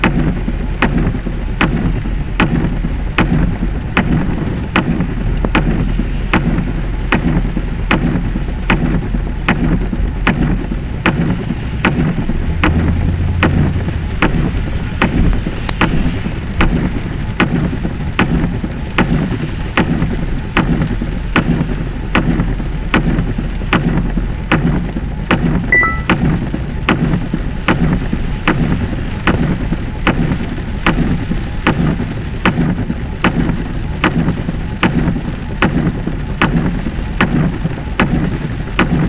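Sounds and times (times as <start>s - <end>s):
low vehicle hum: 0.0s - 39.0s
steady rain: 0.0s - 39.0s.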